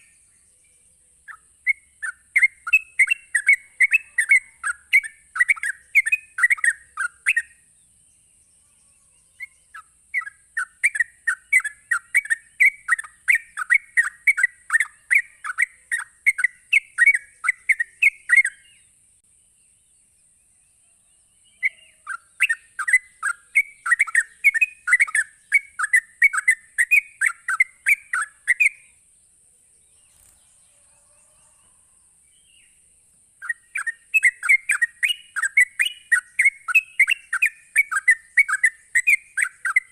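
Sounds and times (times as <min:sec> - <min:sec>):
bird chattering song: 0:00.0 - 0:30.8, 0:33.4 - 0:39.9.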